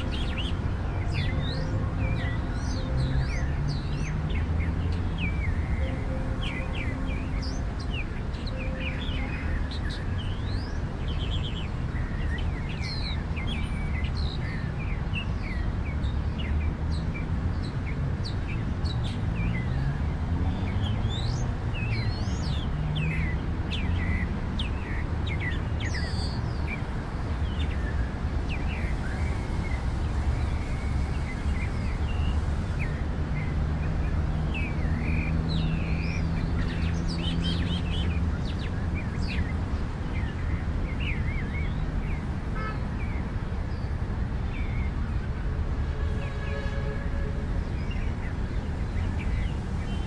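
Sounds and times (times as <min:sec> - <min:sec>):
small birds chirping: 0:00.0 - 0:45.4, 0:46.2 - 0:50.0.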